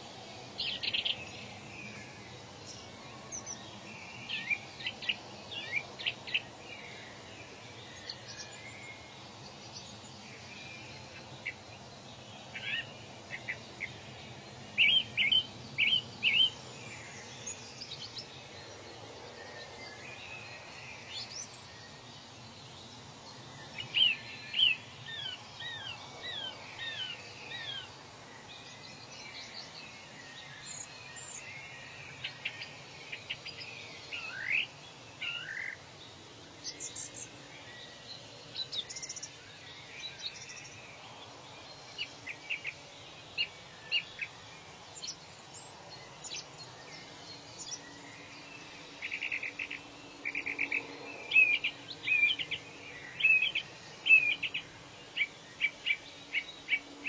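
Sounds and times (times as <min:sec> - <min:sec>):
birds chirping and singing: 0:00.0 - 0:35.9, 0:36.6 - 0:57.0
steady background hiss: 0:00.0 - 0:57.0.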